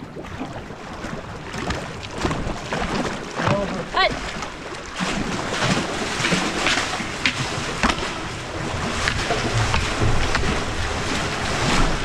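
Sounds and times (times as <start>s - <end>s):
paddles splashing in water: 0.0s - 12.0s
water rushing along hull: 0.0s - 12.0s.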